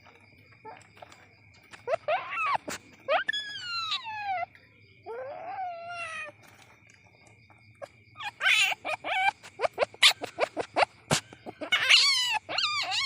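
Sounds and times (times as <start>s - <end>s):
palm civet calling: 0.6s - 6.4s, 7.8s - 13.0s.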